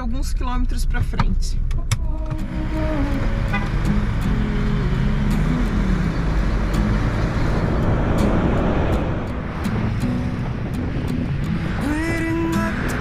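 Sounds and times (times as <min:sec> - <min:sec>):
diesel vehicle engine: 0:00.0 - 0:13.0
tyre noise on road: 0:01.7 - 0:13.0.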